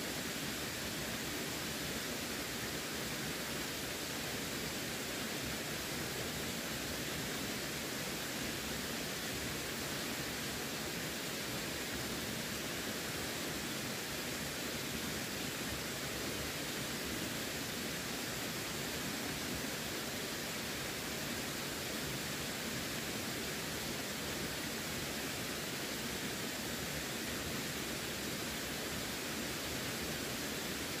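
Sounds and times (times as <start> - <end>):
running water rushing: 0.0 - 31.0.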